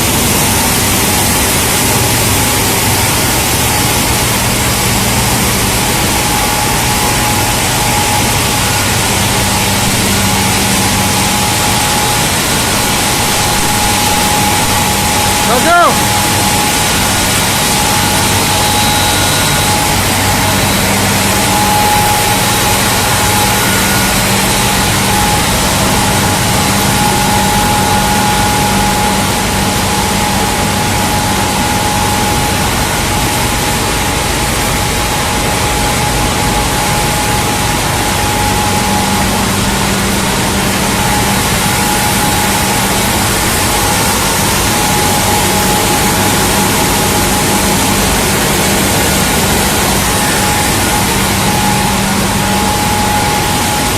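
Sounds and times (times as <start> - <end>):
low machine hum: 0.0 - 53.9
machinery hiss: 0.0 - 53.9
steady machine whine: 0.0 - 53.9.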